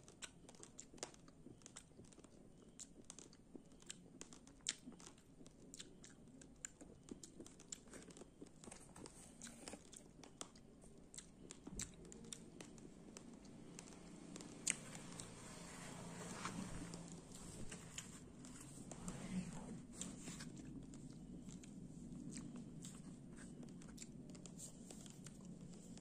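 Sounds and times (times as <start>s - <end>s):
chewing raw rice crunches: 0.0s - 15.4s, 20.1s - 25.8s.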